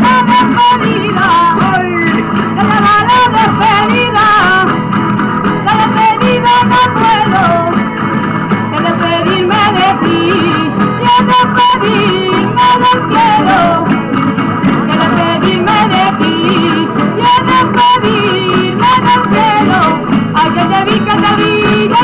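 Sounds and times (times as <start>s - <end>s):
strummed guitars and plucked lutes: 0.0s - 22.0s.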